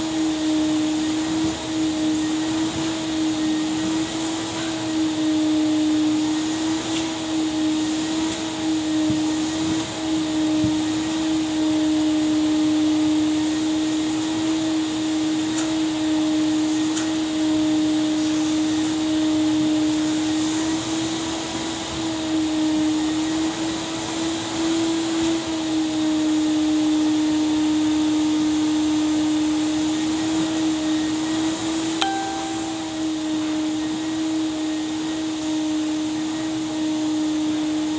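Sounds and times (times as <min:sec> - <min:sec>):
vacuum cleaner running: 0:00.0 - 0:32.2, 0:33.2 - 0:37.9.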